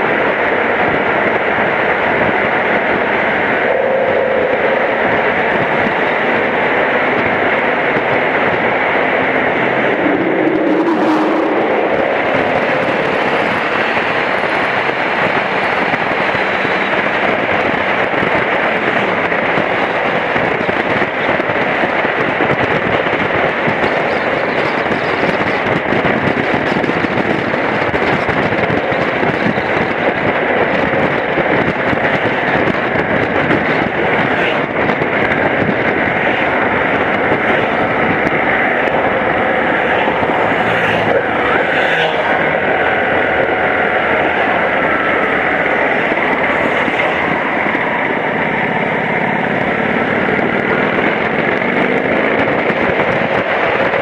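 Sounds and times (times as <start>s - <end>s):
wind rushing on microphone: 0.0s - 54.0s.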